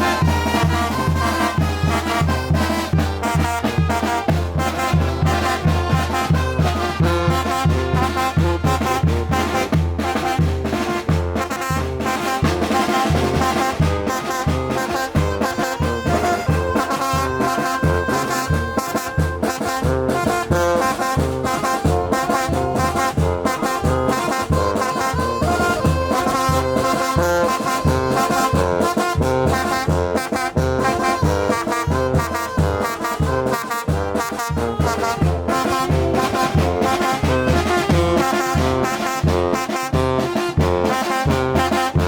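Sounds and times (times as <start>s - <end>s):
trumpets and trombones playing: 0.0s - 42.0s.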